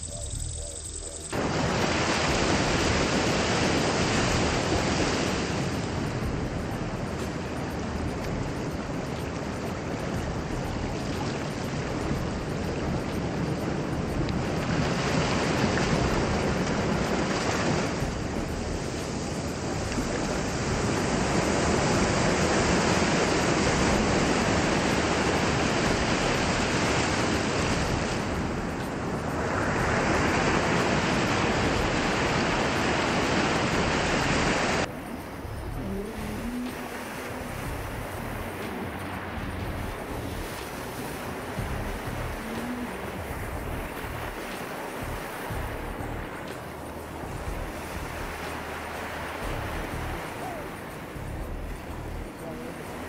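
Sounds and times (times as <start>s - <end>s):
surf washing over sand: 1.3s - 53.0s.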